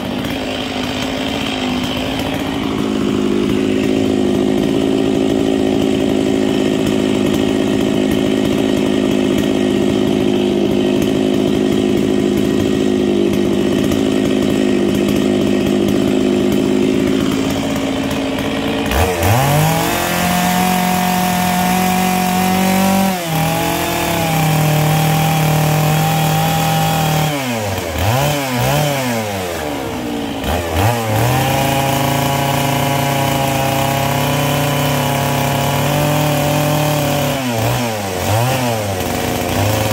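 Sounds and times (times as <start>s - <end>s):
chainsaw cutting wood: 0.0s - 39.9s
chainsaw idling and revving: 0.0s - 39.9s.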